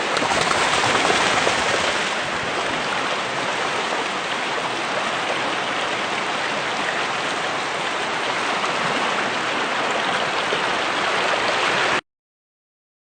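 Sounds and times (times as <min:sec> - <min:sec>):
floodwater rushing over road: 0:00.0 - 0:12.0.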